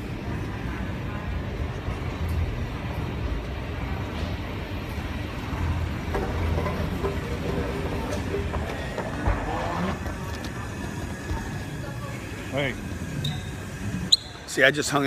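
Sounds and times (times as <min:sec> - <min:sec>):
airport terminal background rumble: 0:00.0 - 0:15.0.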